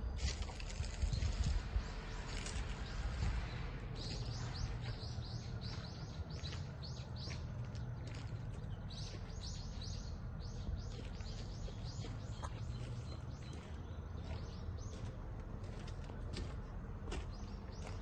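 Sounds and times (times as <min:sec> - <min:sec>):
low background rumble: 0:00.0 - 0:18.0
birds chirping: 0:00.6 - 0:18.0.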